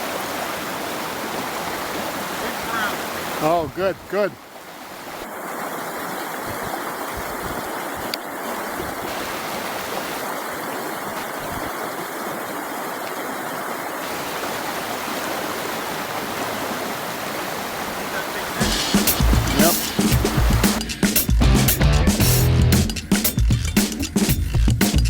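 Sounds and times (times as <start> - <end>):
stream water rushing: 0.0 - 21.8.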